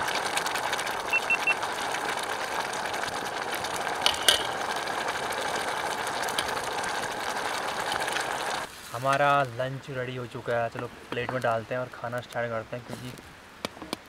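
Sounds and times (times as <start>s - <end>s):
curry simmering in a pot: 0.0s - 14.0s.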